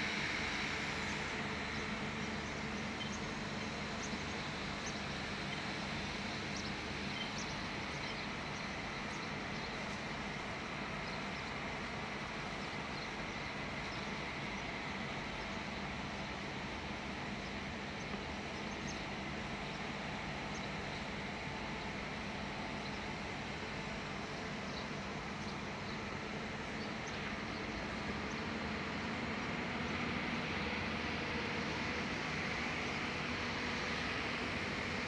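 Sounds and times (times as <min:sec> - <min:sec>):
machinery diesel engine humming: 0:00.0 - 0:35.0.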